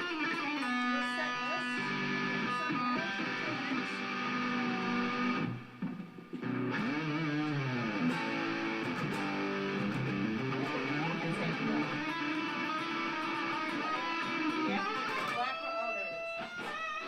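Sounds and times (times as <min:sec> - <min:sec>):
electric guitar sliding melody: 0:00.0 - 0:17.0.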